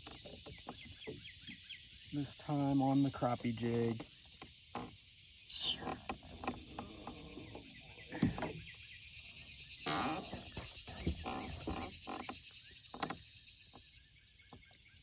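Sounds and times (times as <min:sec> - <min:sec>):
high insect hiss: 0:00.0 - 0:15.0.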